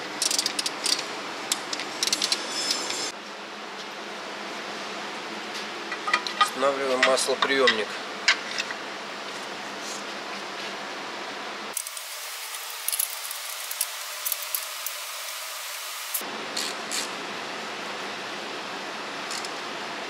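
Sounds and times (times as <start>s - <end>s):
workshop background hiss: 0.0s - 20.0s.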